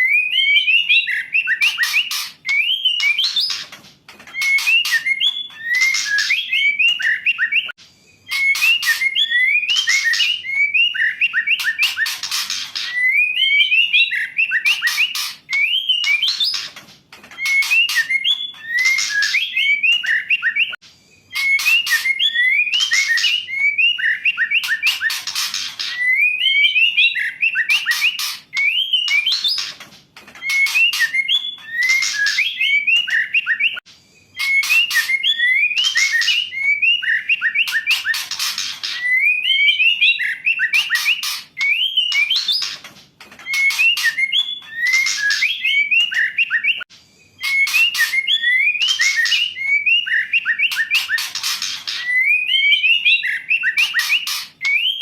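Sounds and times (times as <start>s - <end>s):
bird calling with whistles and rasps: 0.0s - 29.8s, 30.4s - 55.0s.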